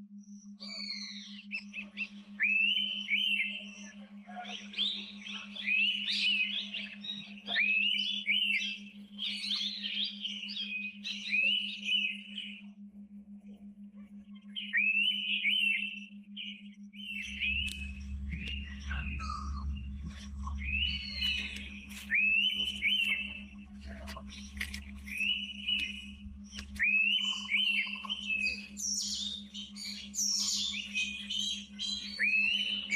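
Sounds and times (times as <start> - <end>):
steady low hum: 0.0 - 32.9
birds whistling calls: 0.4 - 12.6, 14.4 - 32.9.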